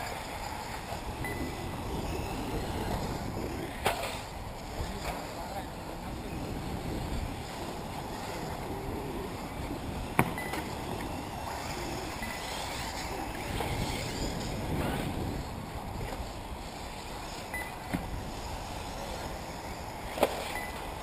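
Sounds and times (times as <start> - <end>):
faint whine of electric toy cars: 0.0 - 21.0
wind rumbling on microphone: 0.0 - 21.0.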